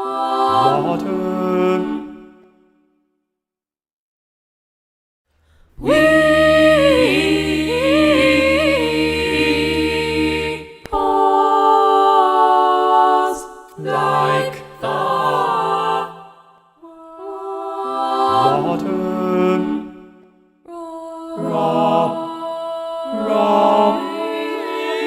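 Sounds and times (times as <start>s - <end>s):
choir singing a cappella: 0.0s - 2.8s, 5.8s - 25.0s.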